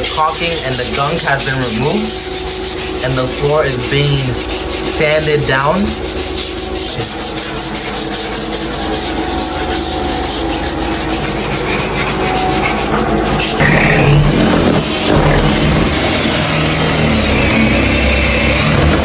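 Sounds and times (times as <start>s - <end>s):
machine humming: 0.0s - 19.0s
sander scrubbing floor: 0.0s - 19.0s.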